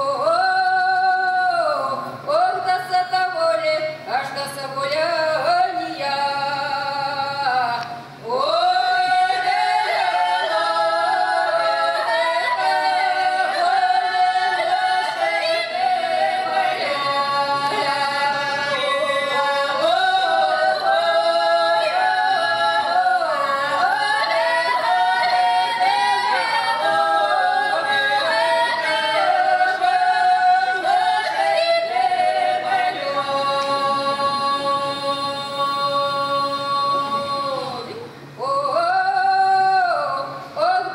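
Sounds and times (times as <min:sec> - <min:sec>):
women singing unaccompanied: 0:00.0 - 0:40.9.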